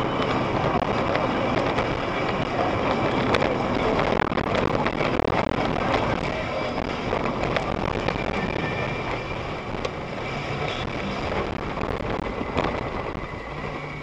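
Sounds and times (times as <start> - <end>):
vehicle road noise: 0.0 - 14.0
wind noise: 0.0 - 14.0.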